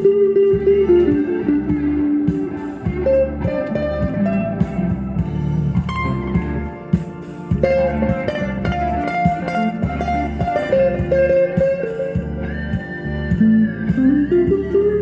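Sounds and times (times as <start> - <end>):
electric guitar melody: 0.0 - 15.0
pulsing bass: 0.5 - 2.2, 2.8 - 6.8, 7.5 - 11.5, 12.2 - 15.0.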